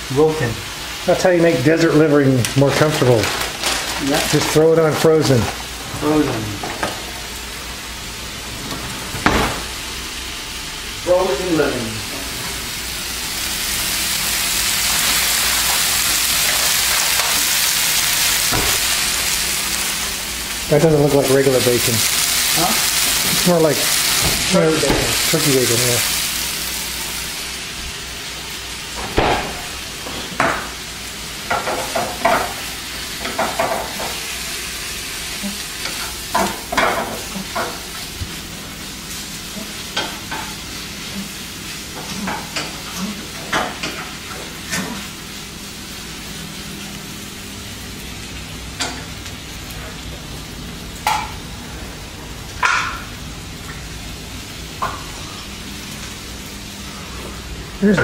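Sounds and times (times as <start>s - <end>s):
bacon sizzling in a frying pan: 0.0s - 8.4s, 9.3s - 58.0s.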